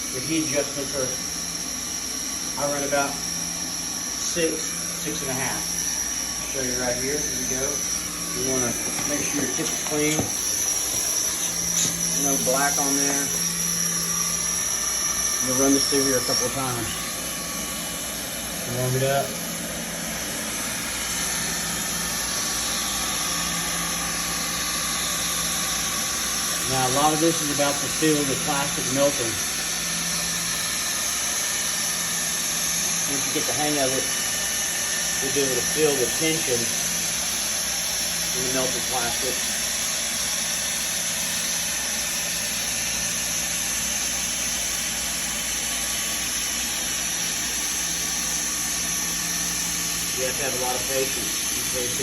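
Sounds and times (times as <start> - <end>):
hot-air blower hissing and humming: 0.0 - 52.0.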